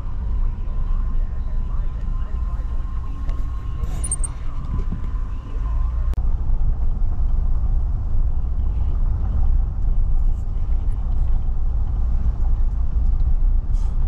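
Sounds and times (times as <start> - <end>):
car driving on brick street: 0.0 - 14.0.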